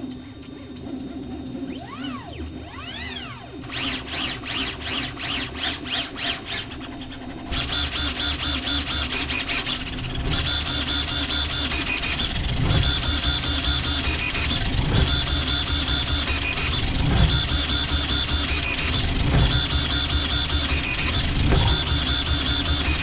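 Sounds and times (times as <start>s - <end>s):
printer stepper motors whining: 0.0s - 23.0s.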